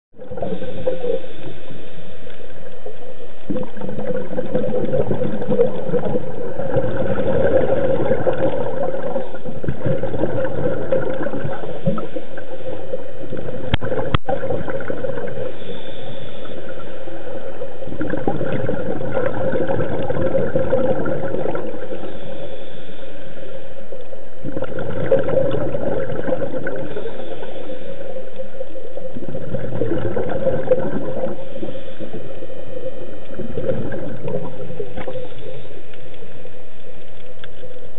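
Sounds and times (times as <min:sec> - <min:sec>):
underwater gurgling and bubbling: 0:00.1 - 0:37.9.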